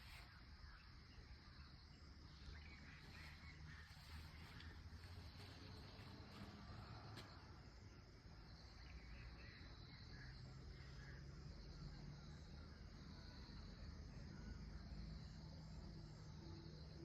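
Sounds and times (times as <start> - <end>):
faint chirps: 0.0 - 17.0
high insect drone: 0.0 - 17.0.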